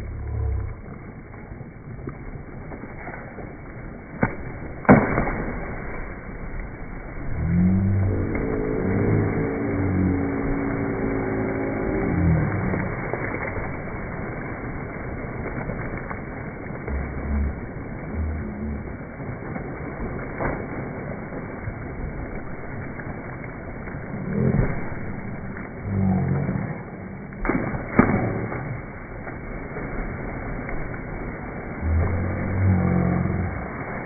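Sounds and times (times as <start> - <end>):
bodies splashing into pool: 0.0 - 34.0.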